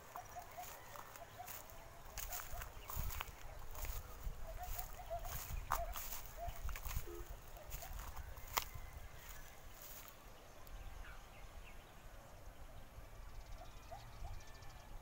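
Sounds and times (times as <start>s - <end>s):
faint bird chirps: 0.1s - 15.0s.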